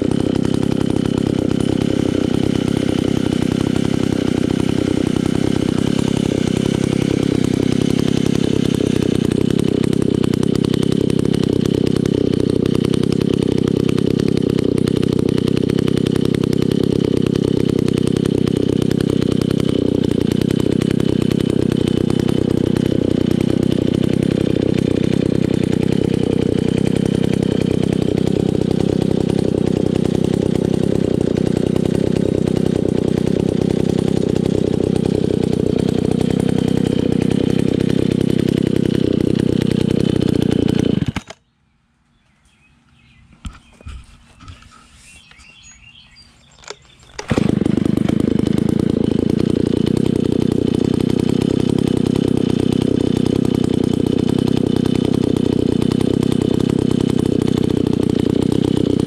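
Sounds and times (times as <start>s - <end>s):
chainsaw engine idling: 0.0s - 59.0s.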